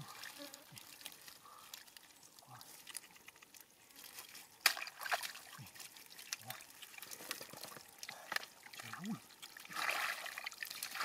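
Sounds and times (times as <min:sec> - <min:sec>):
wet crackling and squelching: 0:00.0 - 0:11.0.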